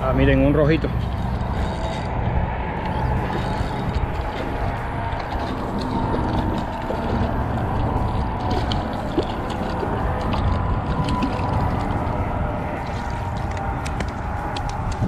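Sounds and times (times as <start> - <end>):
wind rumble on microphone: 0.0 - 15.0
spinning reel cranking: 0.7 - 2.1, 2.8 - 13.6.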